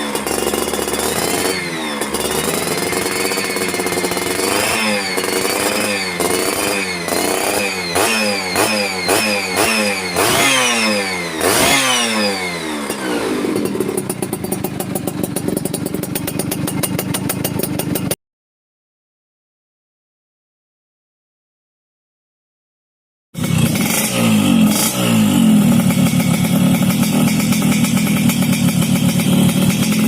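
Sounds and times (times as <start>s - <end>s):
two-stroke engine revving and idling: 0.0s - 18.2s, 23.4s - 30.0s.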